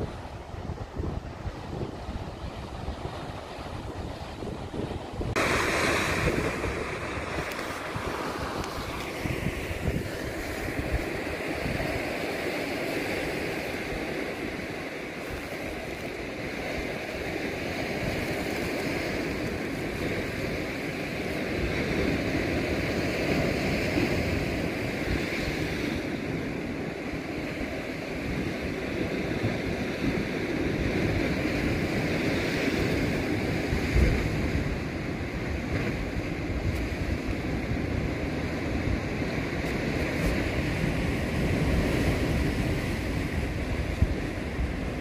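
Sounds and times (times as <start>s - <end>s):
waves washing on rocky shore: 0.0s - 45.0s
wind buffeting microphone: 0.0s - 45.0s.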